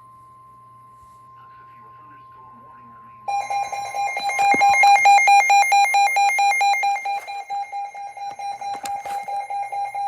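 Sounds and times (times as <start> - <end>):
rapid alarm beeping: 0.0 - 10.0.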